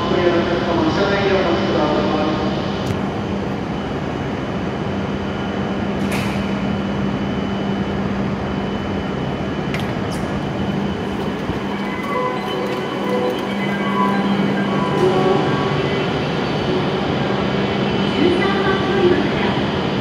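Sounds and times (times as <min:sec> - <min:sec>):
station noise: 0:00.0 - 0:20.0
train equipment humming: 0:02.6 - 0:20.0.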